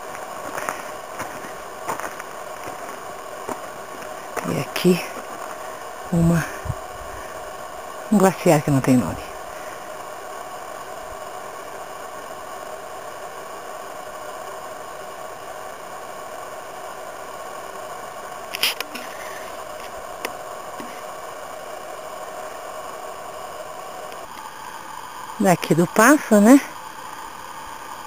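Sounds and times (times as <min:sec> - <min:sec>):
camera recording hiss: 0:00.0 - 0:28.0.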